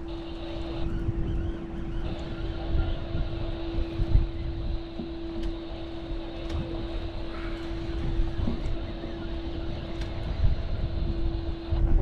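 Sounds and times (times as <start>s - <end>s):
boat engine humming: 0.0s - 12.0s
wind rumbling on microphone: 0.0s - 12.0s.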